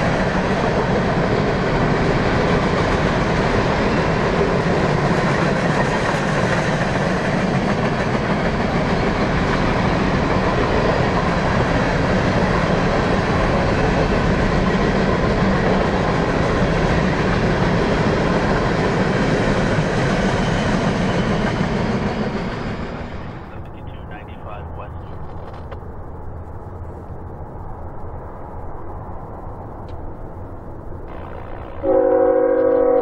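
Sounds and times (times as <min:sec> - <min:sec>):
freight train rolling past: 0:00.0 - 0:33.0.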